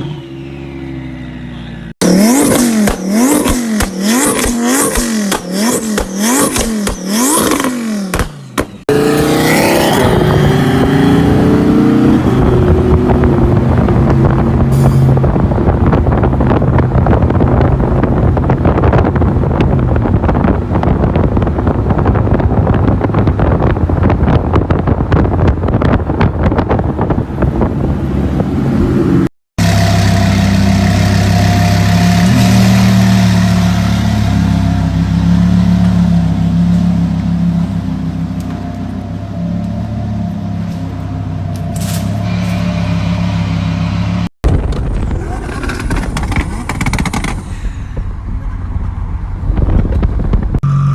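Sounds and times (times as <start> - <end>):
car engine with crackly exhaust: 0.0 - 50.9.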